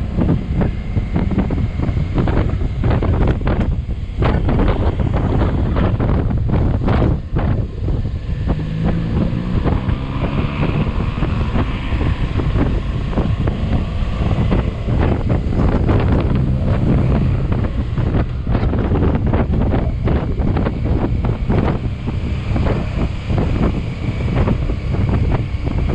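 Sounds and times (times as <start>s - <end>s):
motorcycle engine running: 0.0s - 25.9s
wind buffeting microphone: 0.0s - 25.9s.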